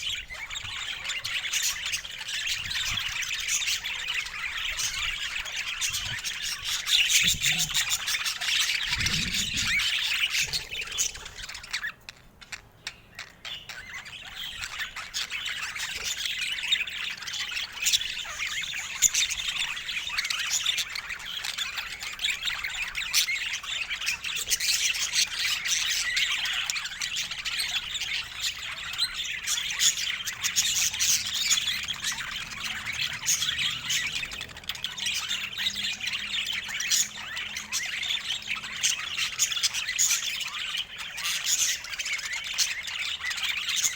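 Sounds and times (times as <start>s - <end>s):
budgerigar chatter: 0.0s - 43.9s.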